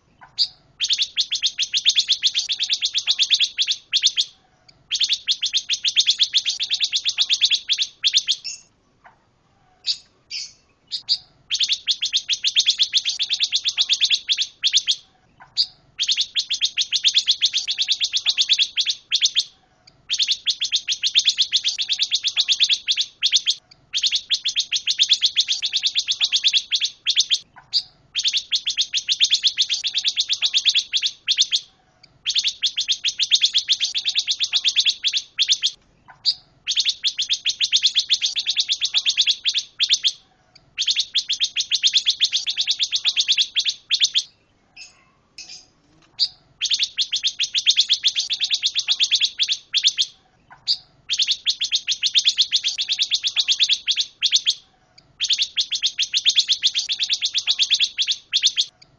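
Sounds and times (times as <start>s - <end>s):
songbird chattering song: 0.0s - 58.9s.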